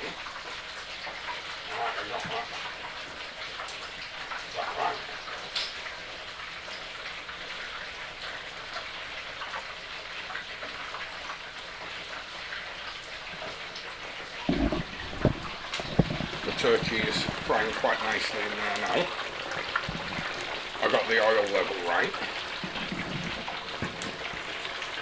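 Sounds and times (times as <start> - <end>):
oil sizzling and bubbling: 0.0 - 25.0.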